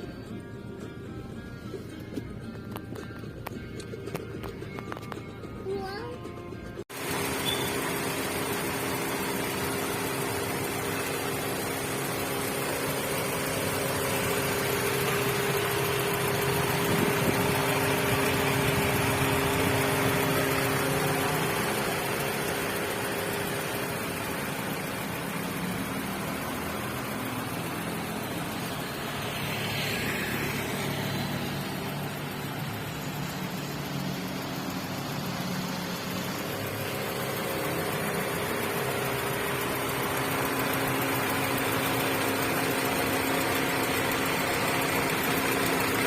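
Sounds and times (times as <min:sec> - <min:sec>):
car engine running: 0:00.0 - 0:46.0.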